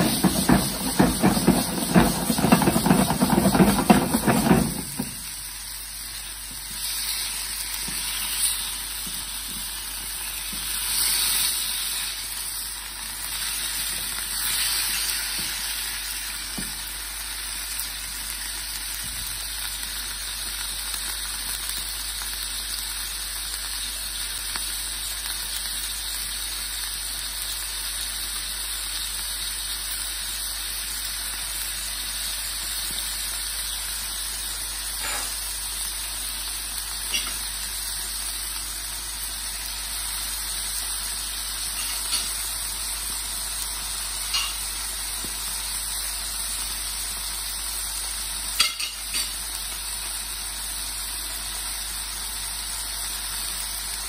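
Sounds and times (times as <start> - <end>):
chicken sizzling in frying pan: 0.0 - 54.0.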